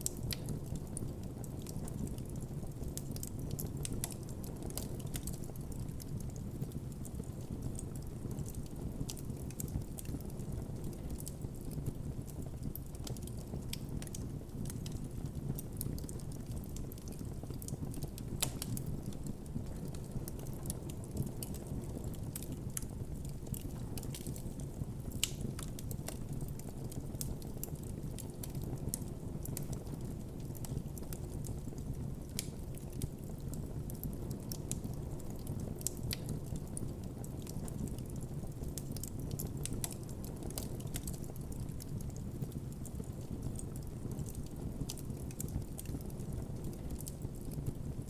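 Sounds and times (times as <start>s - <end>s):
burning wood crackling: 0.0s - 48.0s
low rumble of flames: 0.0s - 48.0s.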